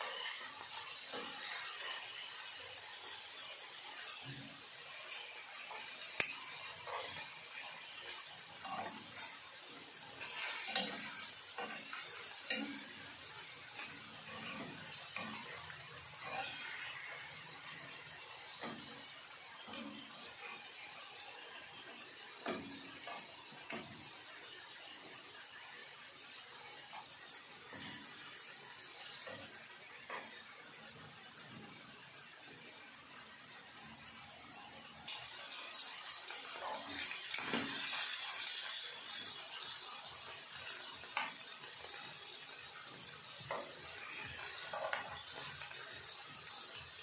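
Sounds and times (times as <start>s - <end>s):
sizzling hiss: 0.0s - 47.0s.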